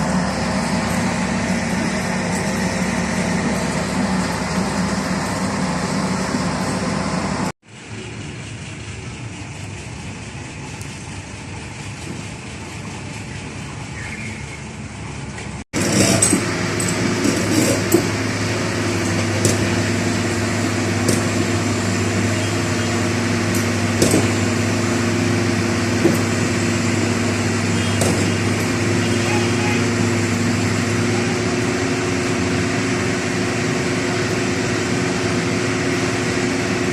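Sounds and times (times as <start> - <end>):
engine hum: 0.0 - 36.9.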